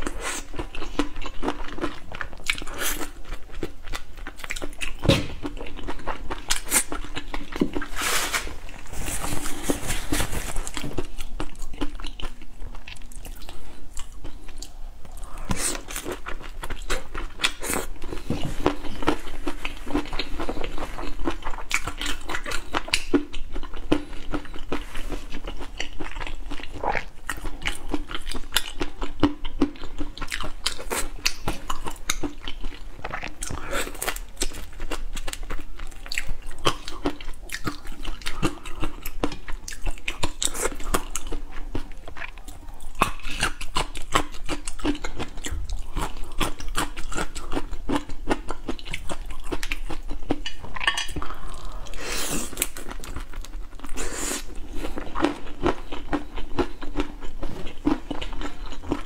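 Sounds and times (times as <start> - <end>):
crunching and chewing prawns: 0.0 - 59.0.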